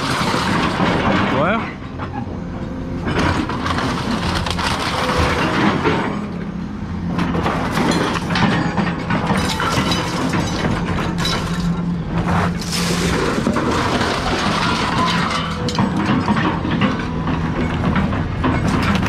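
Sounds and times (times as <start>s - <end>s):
scrap metal crunching and clattering: 0.0s - 2.1s, 3.0s - 19.0s.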